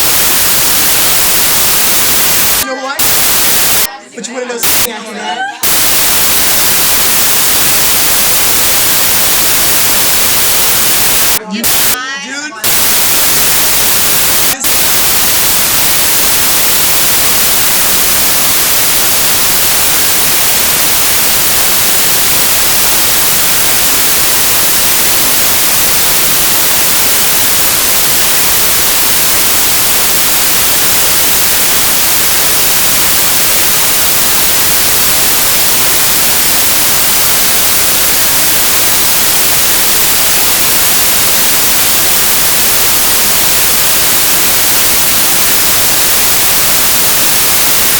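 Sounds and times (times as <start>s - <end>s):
static hiss: 0.0s - 3.9s, 4.6s - 4.9s, 5.6s - 12.0s, 12.6s - 47.9s.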